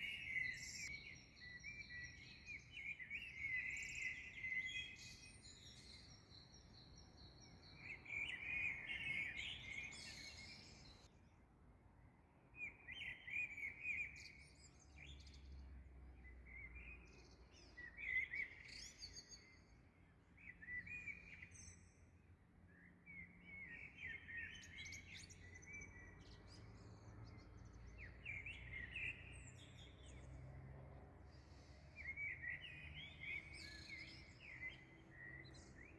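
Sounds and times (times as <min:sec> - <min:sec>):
songbirds chirping: 0:00.0 - 0:11.1, 0:12.6 - 0:35.9.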